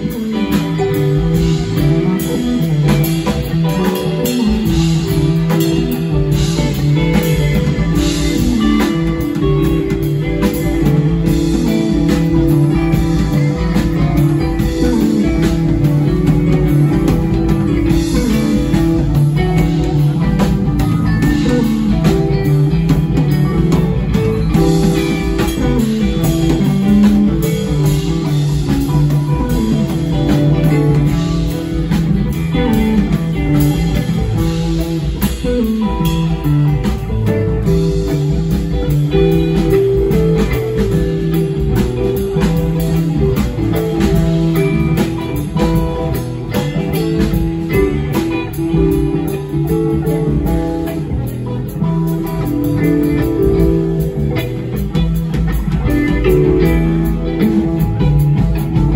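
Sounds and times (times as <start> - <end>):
bass guitar: 0.0 - 58.9
drum kit with cymbals: 0.0 - 58.9
electric guitar with bent notes: 0.0 - 58.9
electric keyboard: 0.0 - 58.9.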